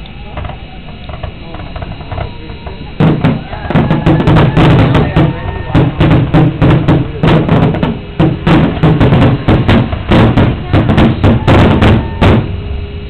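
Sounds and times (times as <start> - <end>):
fireworks exploding: 0.0 - 12.8
rumbling echo: 0.0 - 13.0.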